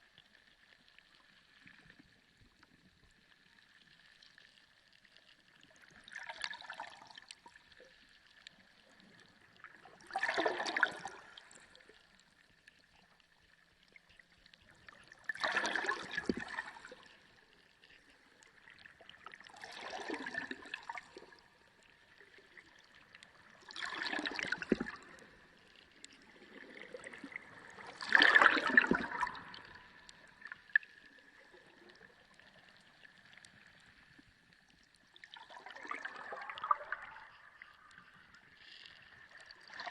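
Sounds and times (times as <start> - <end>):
sea water sloshing: 0.6 - 39.9.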